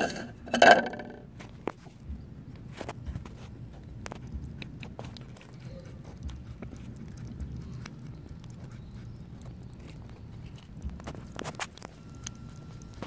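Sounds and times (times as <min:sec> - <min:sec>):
low steady rumble: 0:00.0 - 0:13.0
kittens chewing and licking: 0:01.3 - 0:13.0.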